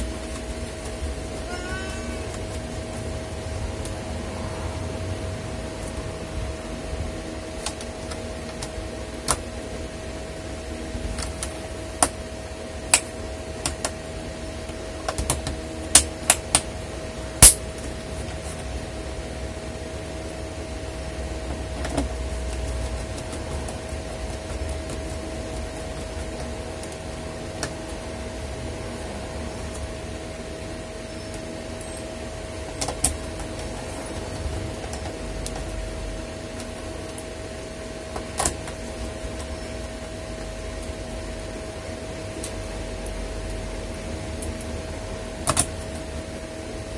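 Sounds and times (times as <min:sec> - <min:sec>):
electric fan hum: 0:00.0 - 0:46.9.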